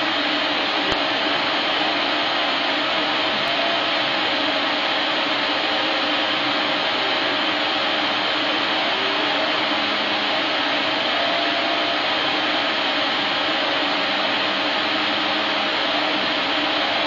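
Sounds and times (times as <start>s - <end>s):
faint hum: 0.0s - 17.0s
rush of blower air: 0.0s - 17.0s.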